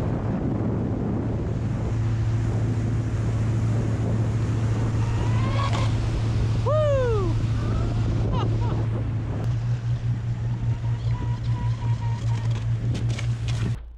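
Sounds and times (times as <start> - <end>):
wind on microphone: 0.0 - 13.8
boat engine droning: 0.0 - 13.9
water rushing past hull: 0.0 - 13.9
short rising whine: 1.6 - 13.9.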